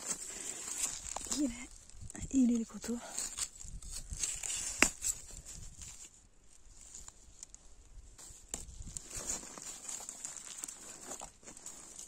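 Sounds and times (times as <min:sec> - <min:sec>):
footsteps on gravel and leaves: 0:00.0 - 0:07.3, 0:08.2 - 0:12.0.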